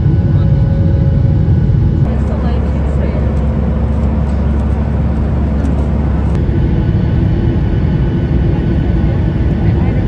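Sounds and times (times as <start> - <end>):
jet cabin engine noise: 0.0 - 10.0.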